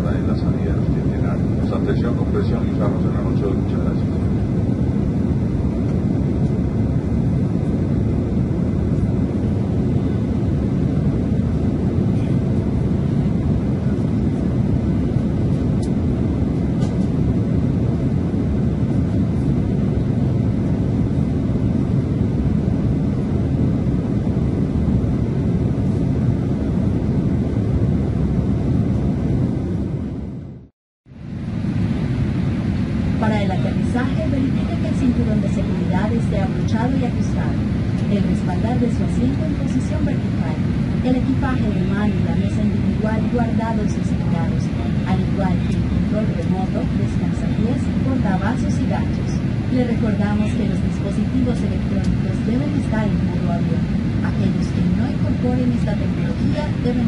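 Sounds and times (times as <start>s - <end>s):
airplane cabin drone: 0.0s - 57.0s.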